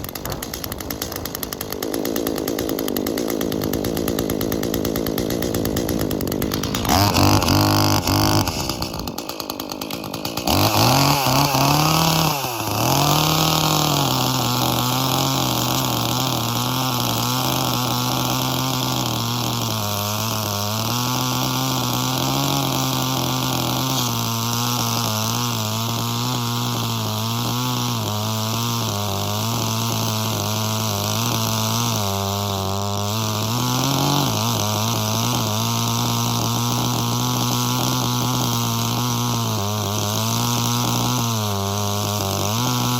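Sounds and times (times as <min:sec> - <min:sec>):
chainsaw cutting through log: 0:00.0 - 0:42.9.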